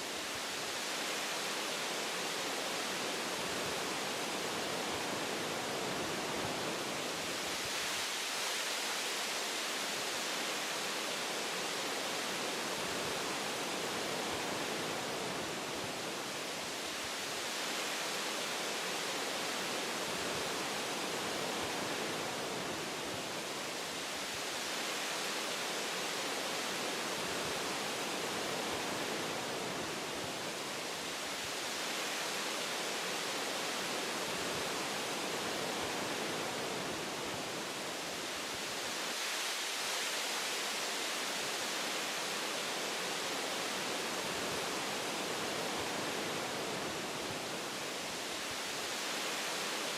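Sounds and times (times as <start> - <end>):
wind through tree branches: 0.0 - 49.9.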